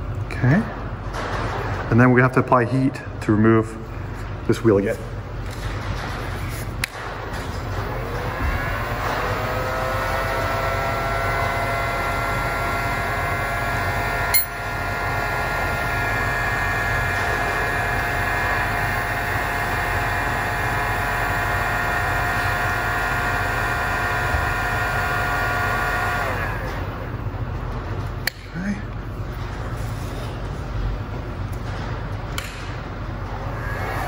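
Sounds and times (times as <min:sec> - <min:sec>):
heat gun fan whine: 0:00.0 - 0:34.0.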